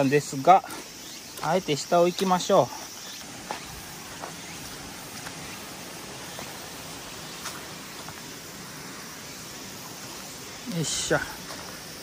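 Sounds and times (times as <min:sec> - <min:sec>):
footsteps on gravel and leaves: 0:00.0 - 0:08.7, 0:09.8 - 0:12.0
rushing outdoor background noise: 0:00.0 - 0:12.0.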